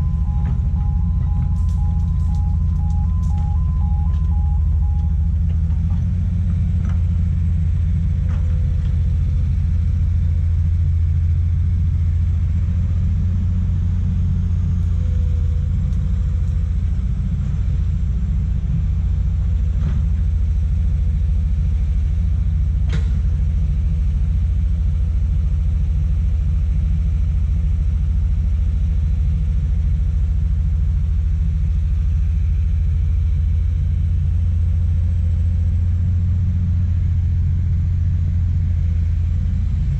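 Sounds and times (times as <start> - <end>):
excavator diesel engine rumble: 0.0 - 39.9.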